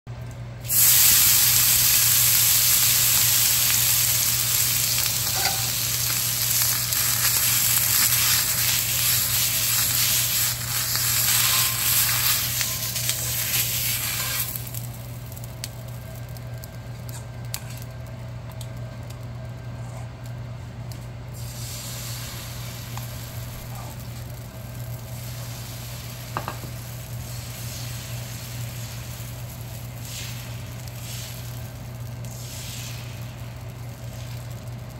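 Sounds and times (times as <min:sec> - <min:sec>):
hot pan sizzling: 0:00.6 - 0:18.9, 0:21.3 - 0:34.9.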